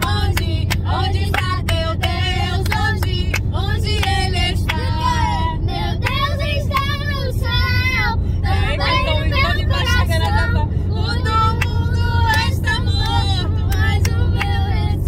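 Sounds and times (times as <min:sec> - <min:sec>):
car engine rumble and road noise: 0:00.0 - 0:15.0.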